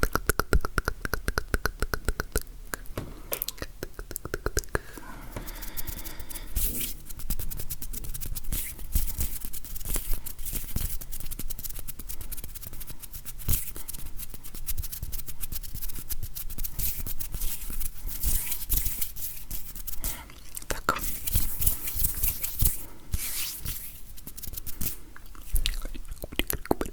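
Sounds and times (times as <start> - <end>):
fingers rubbing and tapping: 0.0 - 25.0.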